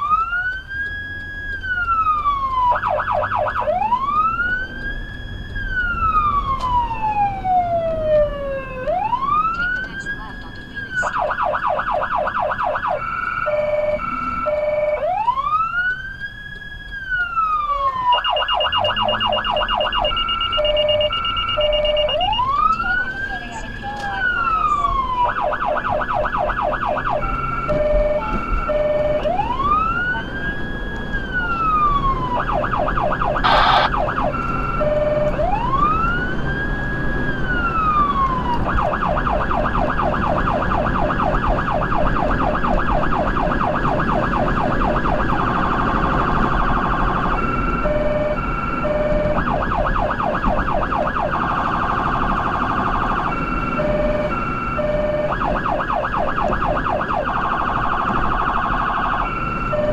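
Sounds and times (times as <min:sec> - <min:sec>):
electronic siren: 0:00.0 - 0:59.9.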